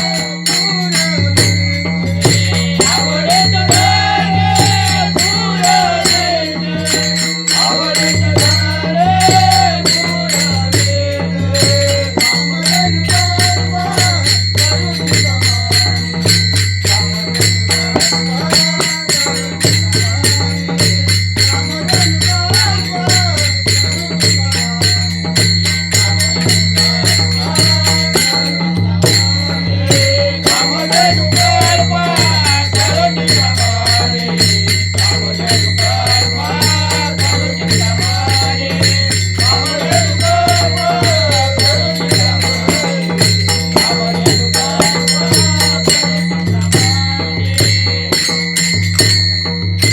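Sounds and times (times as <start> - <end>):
hand cymbals clashing: 0.0 - 49.9.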